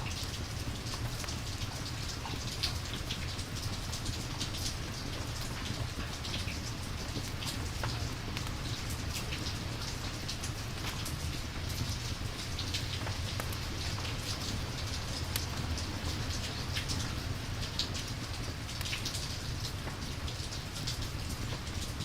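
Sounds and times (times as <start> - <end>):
raindrops ticking: 0.0 - 22.0
steady rain hiss: 0.0 - 22.0.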